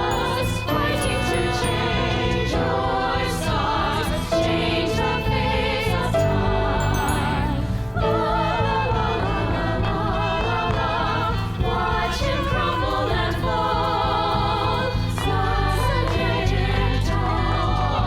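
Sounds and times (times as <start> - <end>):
low instrumental accompaniment: 0.0 - 17.6
choir singing with vibrato: 0.0 - 18.0.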